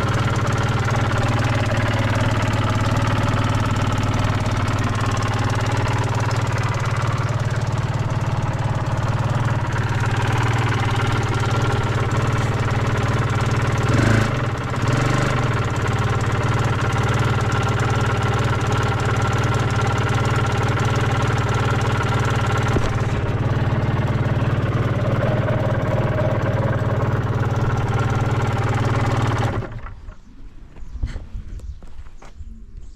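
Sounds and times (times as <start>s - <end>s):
motorcycle engine idling: 0.0s - 30.4s.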